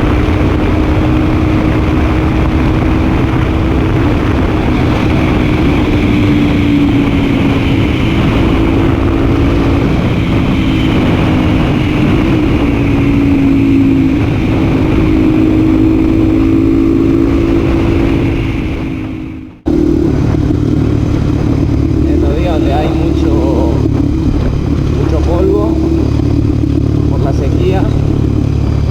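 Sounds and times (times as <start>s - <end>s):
loud wind rush: 0.0s - 28.9s
motorcycle engine at high revs: 0.0s - 28.9s.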